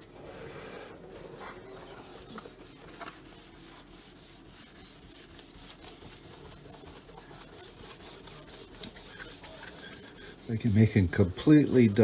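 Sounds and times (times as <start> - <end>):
abrasive pad scrubbing wood: 0.0 - 12.0.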